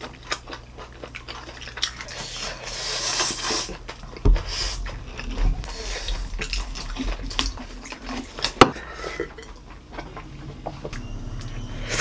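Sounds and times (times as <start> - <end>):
chewing and slurping noodles: 0.0 - 10.6.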